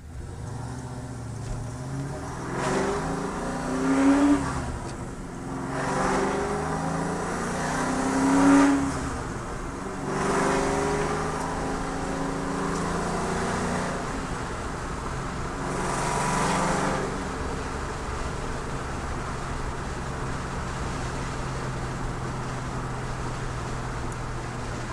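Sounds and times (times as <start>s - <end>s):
car engine revving and idling: 0.0s - 24.9s.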